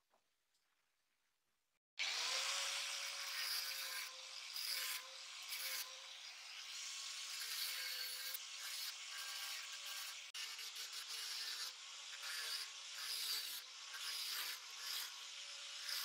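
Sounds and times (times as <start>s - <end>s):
angle grinder grinding metal: 2.0s - 16.0s.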